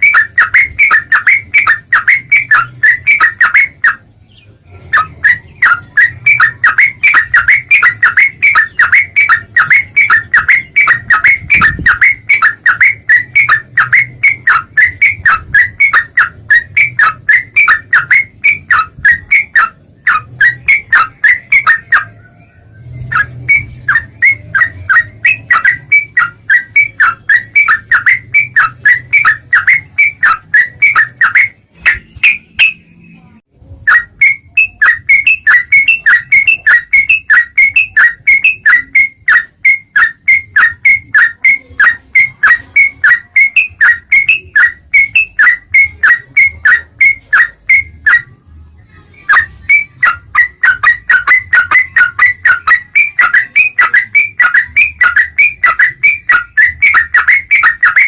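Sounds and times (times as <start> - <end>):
bulbul calling: 0.0 - 33.2, 33.9 - 48.4, 49.0 - 58.0.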